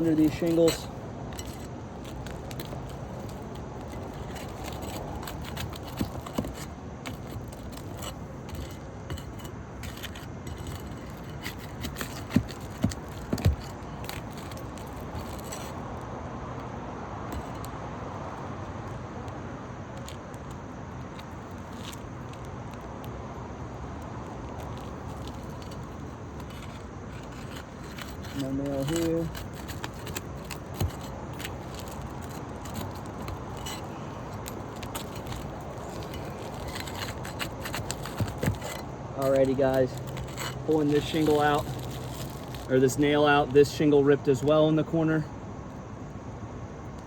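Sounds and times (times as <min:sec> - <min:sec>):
shingles scraping and clicking: 0:00.0 - 0:45.2.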